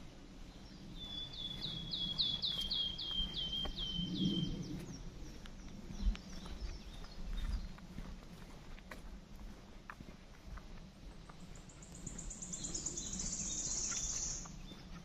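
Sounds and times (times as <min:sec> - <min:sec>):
footsteps on dirt path: 0:00.0 - 0:15.0
songbird singing: 0:00.0 - 0:15.0.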